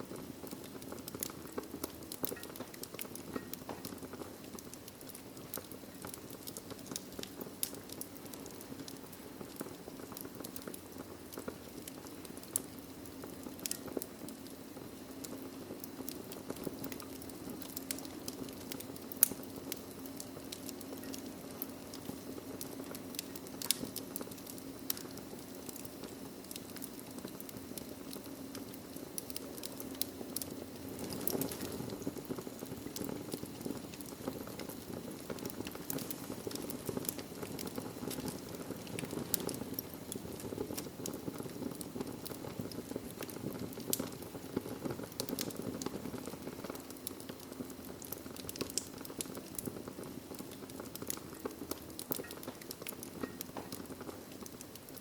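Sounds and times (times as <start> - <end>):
fire popping and snapping: 0.0 - 55.0
flame rushing: 0.0 - 55.0.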